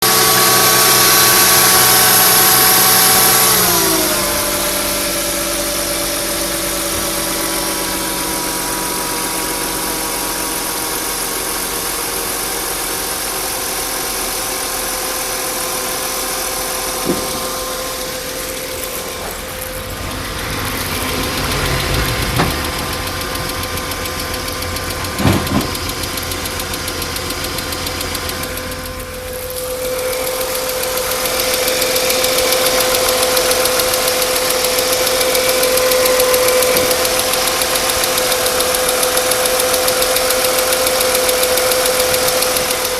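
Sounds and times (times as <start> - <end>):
car engine idling with knock: 0.1 - 42.9.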